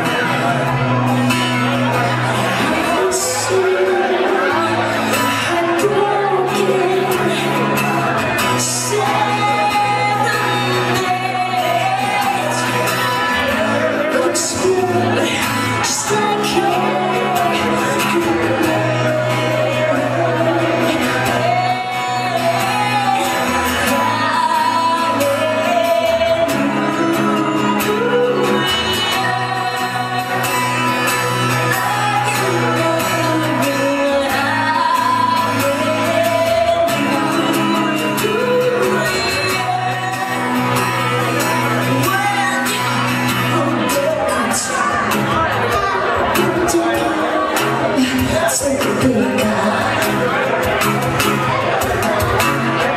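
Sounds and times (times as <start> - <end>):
acoustic guitar strumming: 0.0 - 52.9
woman singing: 2.0 - 50.7.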